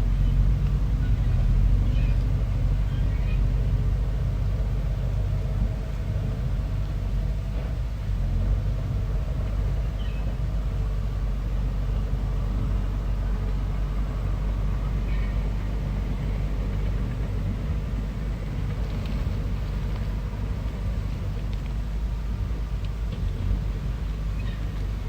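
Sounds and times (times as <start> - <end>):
bulldozer diesel engine rumbling: 0.0 - 25.0.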